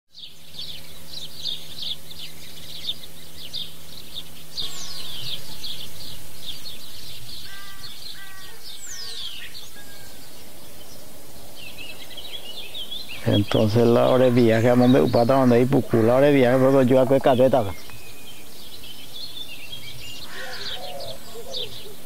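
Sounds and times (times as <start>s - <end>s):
birds chirping: 0.1s - 22.0s
short repeated bird calls: 0.1s - 22.0s
low steady hum: 0.2s - 22.0s.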